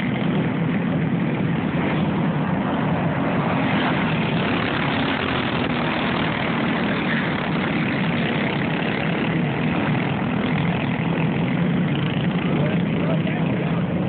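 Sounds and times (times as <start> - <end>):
go-kart engines racing: 0.0 - 14.0.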